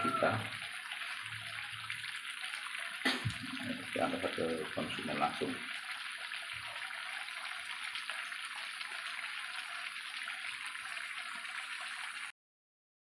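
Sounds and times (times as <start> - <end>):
chicken sizzling in a wok: 0.0 - 12.3.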